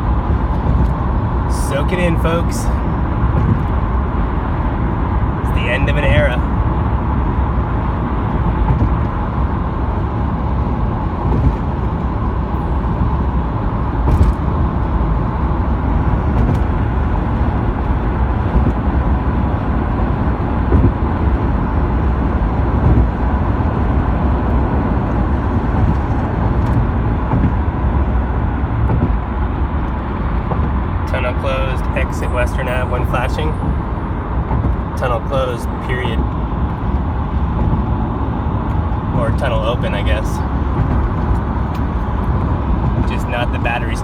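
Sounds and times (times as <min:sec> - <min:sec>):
car road noise rumble: 0:00.0 - 0:44.0.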